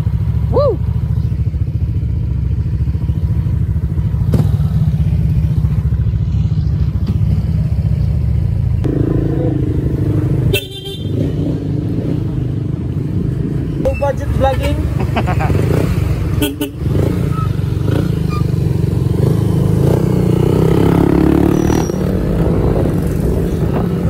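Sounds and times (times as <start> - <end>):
motorcycle engines idling: 0.0 - 20.6.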